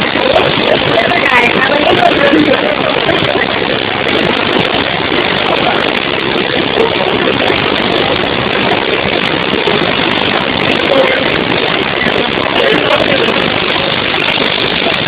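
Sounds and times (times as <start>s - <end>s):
roar of rushing water: 0.0s - 15.0s.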